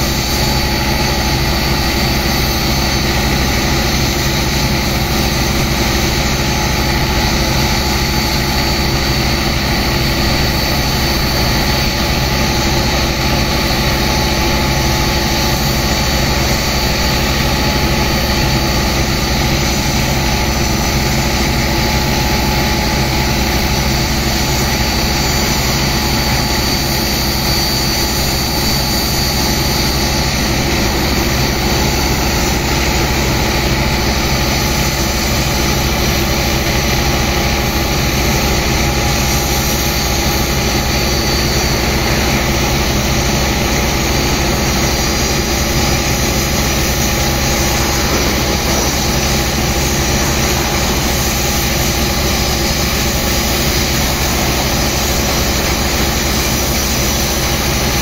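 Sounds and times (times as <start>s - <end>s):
high-pressure water jets rushing: 0.0s - 58.0s
pump engine droning: 0.0s - 58.0s.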